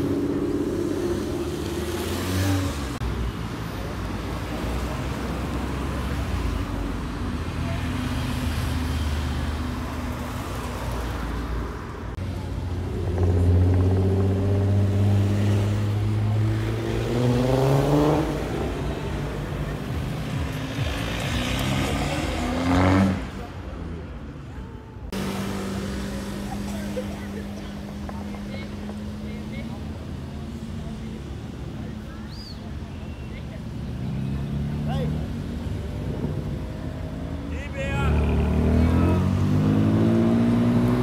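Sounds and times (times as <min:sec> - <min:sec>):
car engines accelerating: 0:00.0 - 0:41.0.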